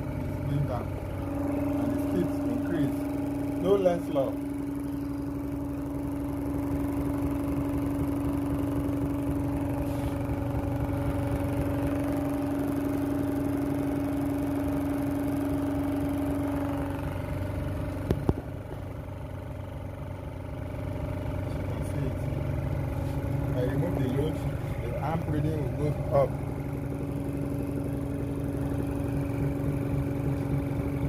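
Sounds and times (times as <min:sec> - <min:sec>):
small electric motor humming: 0:00.0 - 0:31.0.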